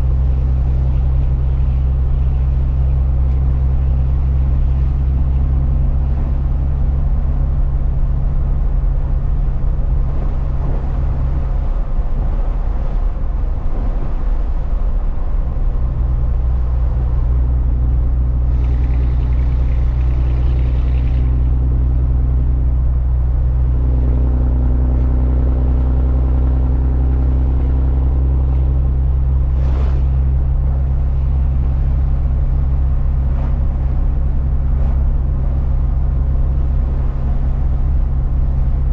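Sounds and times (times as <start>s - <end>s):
truck engine and road noise: 0.0s - 38.9s.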